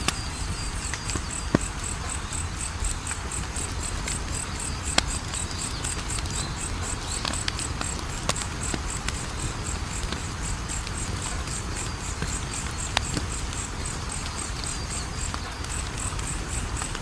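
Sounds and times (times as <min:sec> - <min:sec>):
cricket chirping: 0:00.0 - 0:17.0
wood fire crackling: 0:00.0 - 0:17.0.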